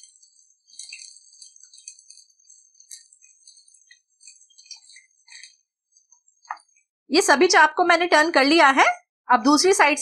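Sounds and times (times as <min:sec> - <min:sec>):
oil sizzling: 0:00.0 - 0:08.5.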